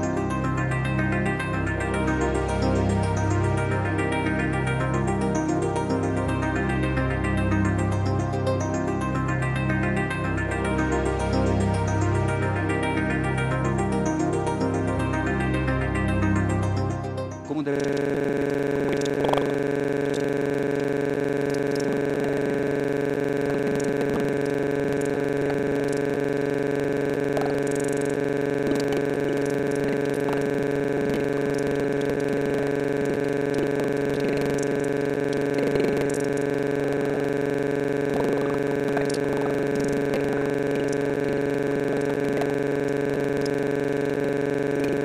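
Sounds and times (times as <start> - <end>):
steady electronic drone: 0.0 - 45.0.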